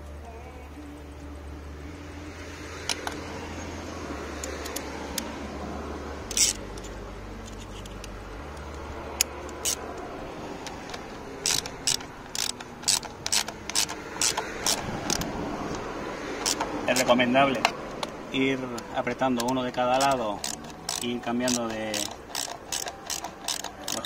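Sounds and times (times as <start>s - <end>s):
ratchet wrench clicking: 2.7s - 3.3s, 4.3s - 5.3s, 6.2s - 24.0s.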